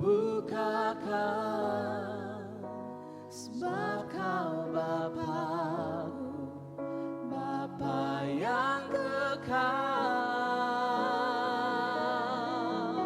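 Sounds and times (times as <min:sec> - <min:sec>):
person singing with vibrato: 0:00.0 - 0:13.0.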